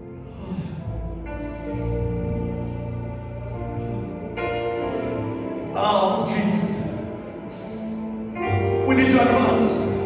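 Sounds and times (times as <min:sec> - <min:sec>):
slow church worship music: 0:00.0 - 0:10.0.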